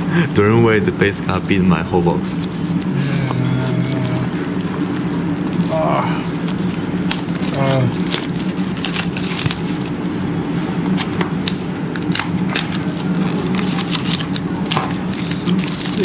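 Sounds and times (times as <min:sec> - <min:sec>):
card stock and wrapper crackling: 0:00.0 - 0:16.0
steady low hum: 0:00.0 - 0:16.0.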